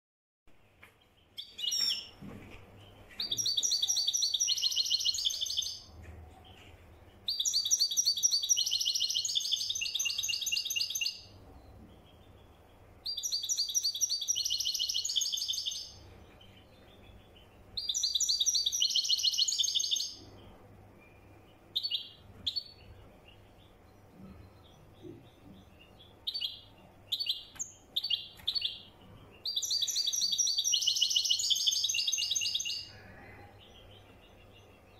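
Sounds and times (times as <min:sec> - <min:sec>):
bird twittering song: 0:00.8 - 0:34.9.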